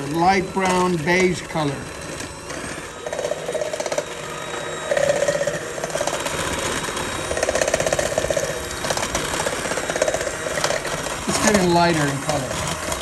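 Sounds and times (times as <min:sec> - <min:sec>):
hand mixer whipping liquid: 0:00.0 - 0:13.0.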